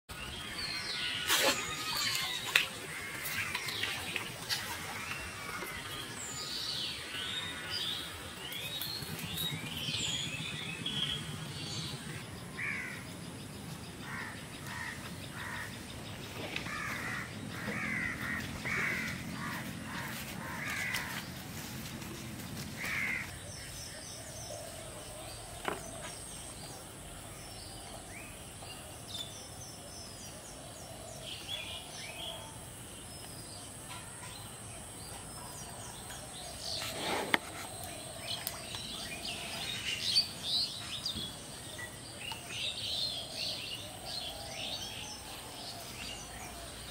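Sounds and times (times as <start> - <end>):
birds calling: 0.1 - 46.9.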